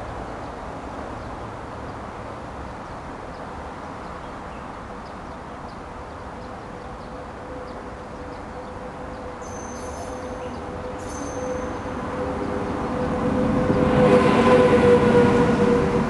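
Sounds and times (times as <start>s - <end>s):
outdoor background hiss: 0.0s - 13.6s
train hum with high whine: 0.0s - 16.0s.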